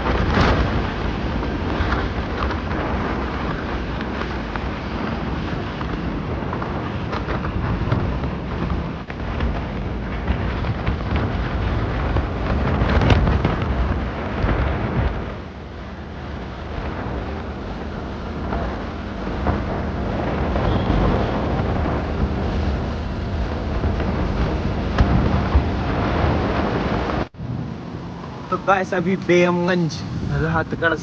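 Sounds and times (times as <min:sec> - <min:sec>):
motorcycle running: 0:00.0 - 0:29.6
road noise: 0:00.0 - 0:31.0
wind buffeting microphone: 0:00.0 - 0:31.0.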